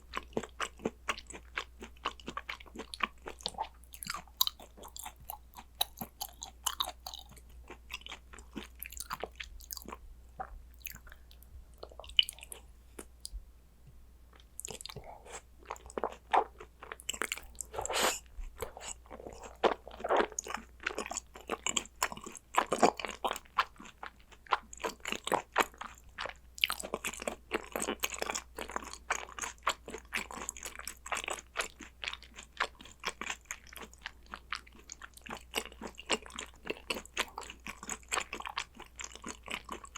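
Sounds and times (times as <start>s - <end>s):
chewing and biting mouth sounds: 0.0s - 13.4s, 14.3s - 39.9s.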